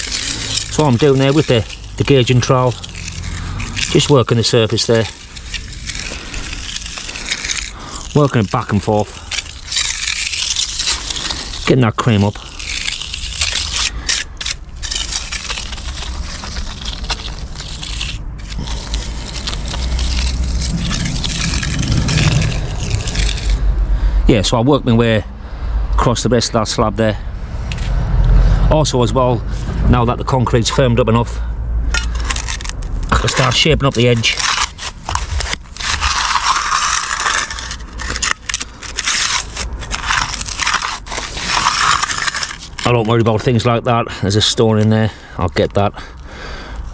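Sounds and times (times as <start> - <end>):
trowel scraping wet concrete: 0.0 - 23.6, 31.9 - 45.9.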